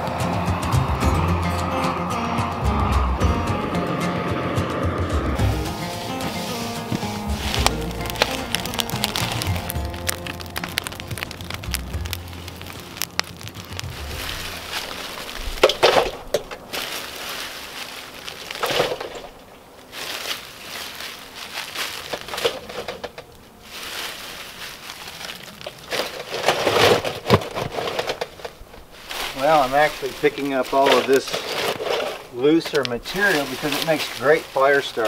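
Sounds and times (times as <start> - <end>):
bark strips rustling and crunching: 5.0 - 35.0.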